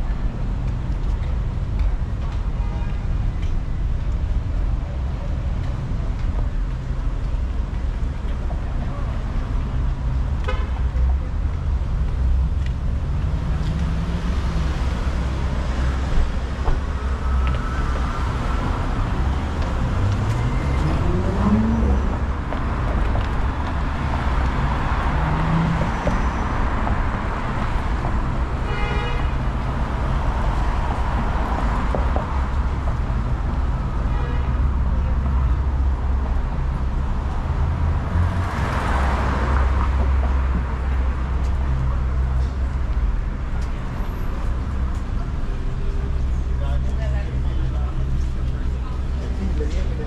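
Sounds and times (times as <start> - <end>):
rumble of cars passing: 0.0 - 50.0.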